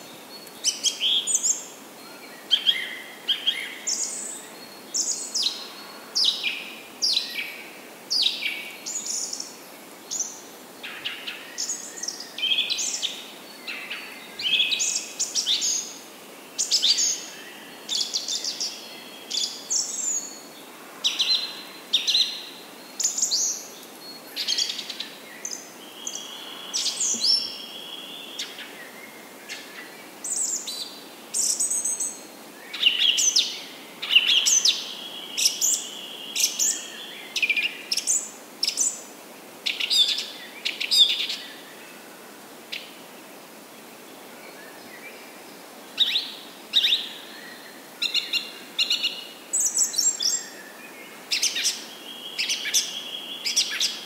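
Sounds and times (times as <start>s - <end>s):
small birds chirping: 0.0s - 41.8s, 44.0s - 54.0s.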